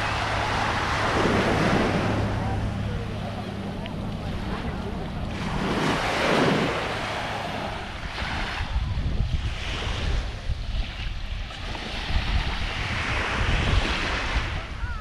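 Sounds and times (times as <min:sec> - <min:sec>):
surf washing on beach: 0:00.0 - 0:15.0
wind rumbling on microphone: 0:00.0 - 0:15.0.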